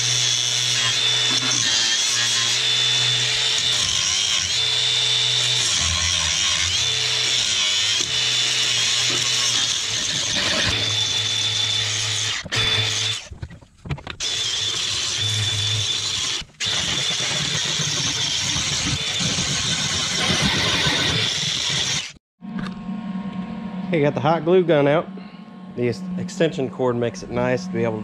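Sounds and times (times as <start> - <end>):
angle grinder grinding steel: 0.0 - 13.3, 14.2 - 22.2, 24.0 - 28.0.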